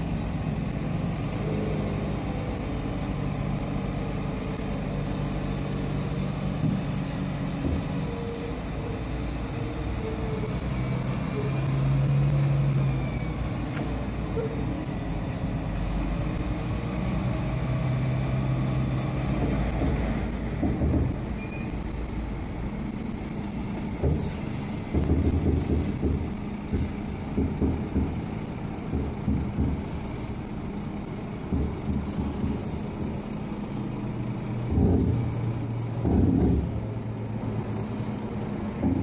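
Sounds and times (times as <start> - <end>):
diesel truck engine running: 0.0 - 39.0
heavy container rumbles and clunks: 0.0 - 39.0.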